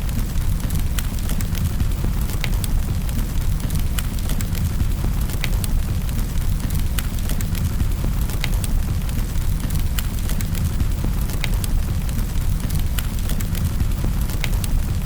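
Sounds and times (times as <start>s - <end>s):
fire burning in fireplace: 0.0s - 15.0s.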